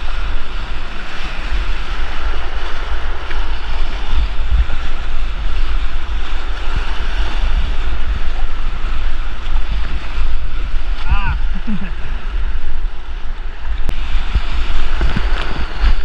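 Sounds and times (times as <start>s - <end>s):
creek water rushing: 0.0s - 16.0s
wind buffeting microphone: 0.0s - 16.0s.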